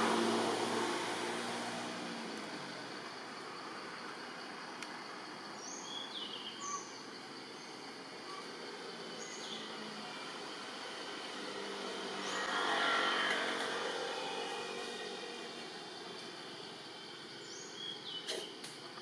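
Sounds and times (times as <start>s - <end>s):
broad swell of noise: 0.0s - 5.6s, 7.0s - 18.1s
steady background hiss: 0.0s - 19.0s.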